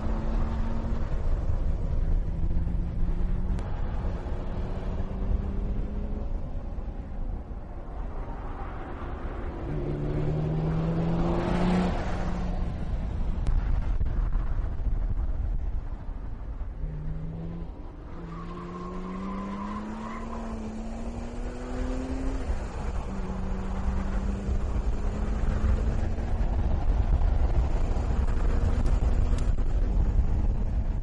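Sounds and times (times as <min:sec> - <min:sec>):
car engine at speed: 0:00.0 - 0:31.0
wind and road rumble: 0:00.0 - 0:31.0.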